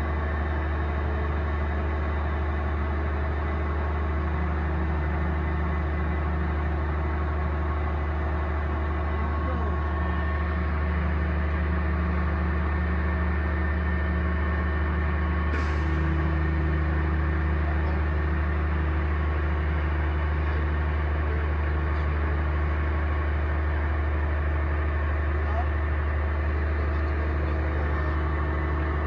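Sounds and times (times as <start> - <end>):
heavy engine droning: 0.0 - 29.0.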